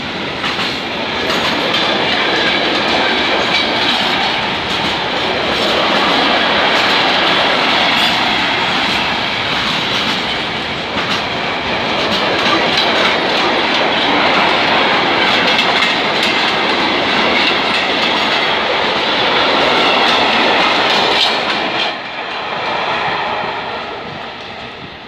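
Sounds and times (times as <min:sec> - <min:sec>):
freight train wheels on rails: 0:00.0 - 0:25.0
wheels clacking over rail joints: 0:00.4 - 0:23.1.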